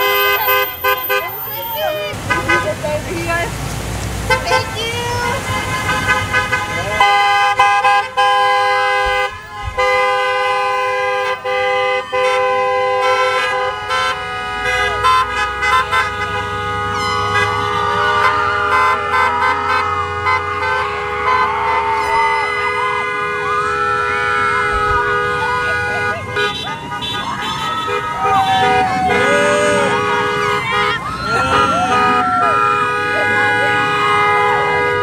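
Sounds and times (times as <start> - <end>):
car horns honking: 0.0 - 3.5, 4.2 - 35.0.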